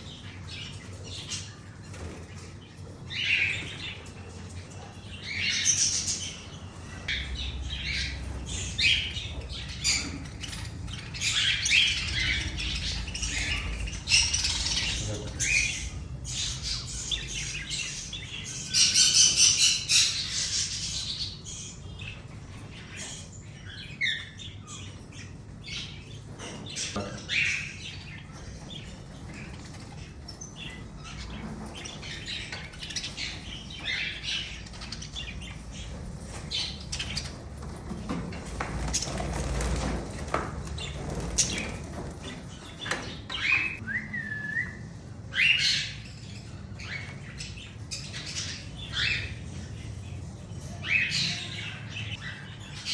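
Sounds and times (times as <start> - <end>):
aviary birds chirping: 0.0 - 52.9.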